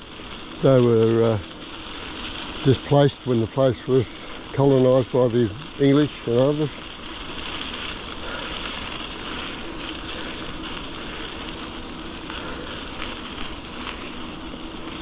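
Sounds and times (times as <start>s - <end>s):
bicycle tyres hissing on path: 0.0s - 15.0s.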